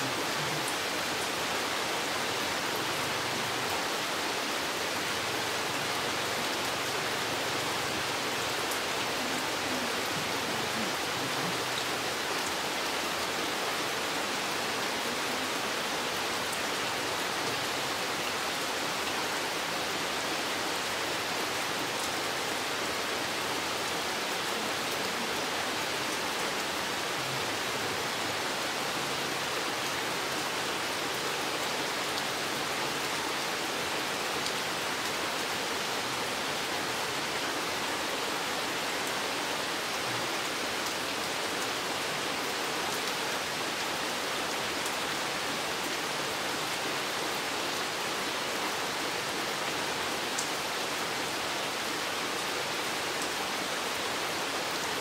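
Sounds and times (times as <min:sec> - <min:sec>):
rain falling on forest: 0:00.0 - 0:55.0.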